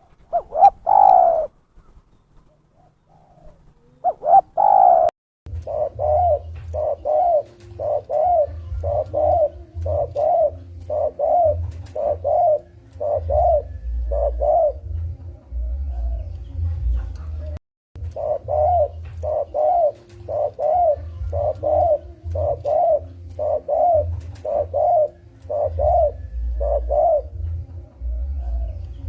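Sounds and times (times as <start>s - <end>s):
dove cooing: 0.0s - 1.6s, 2.5s - 29.0s.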